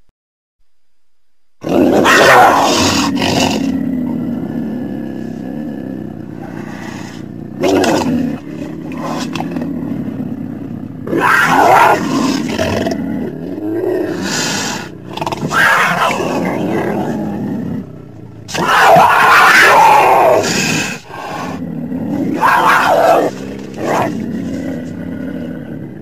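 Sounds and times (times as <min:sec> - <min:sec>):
cougar calls: 0:01.6 - 0:26.0
cougar growling: 0:01.6 - 0:26.0.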